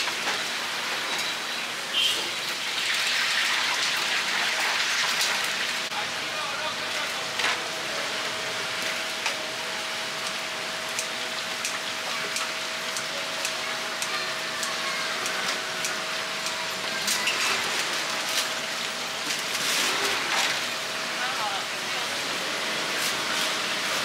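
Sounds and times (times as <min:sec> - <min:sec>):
oil sizzling in deep fryer: 0:00.0 - 0:24.0.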